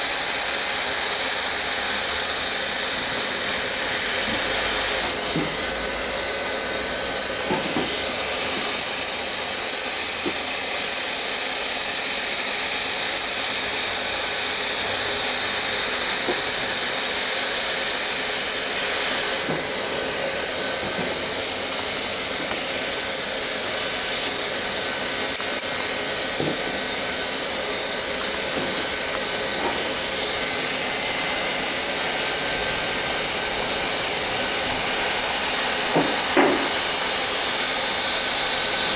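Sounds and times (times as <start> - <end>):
hot-air blower hissing: 0.0 - 38.9.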